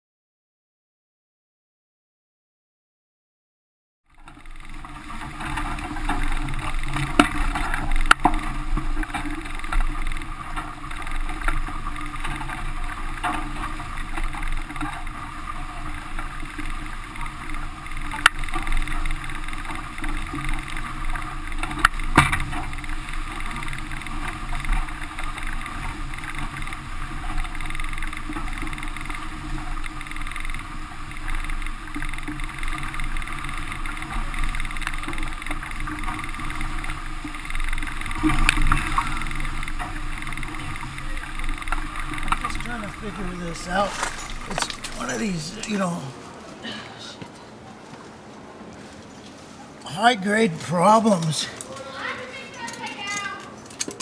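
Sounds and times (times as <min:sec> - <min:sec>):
water rushing along hulls: 0:04.1 - 0:54.0.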